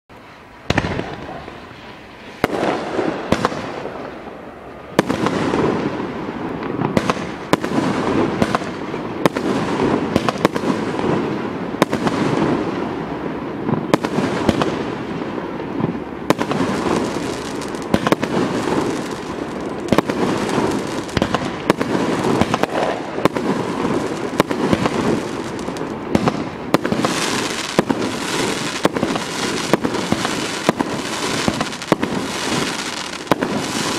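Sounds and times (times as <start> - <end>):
firework hiss and crackle: 0.1 - 33.9
firework bangs: 0.2 - 33.9.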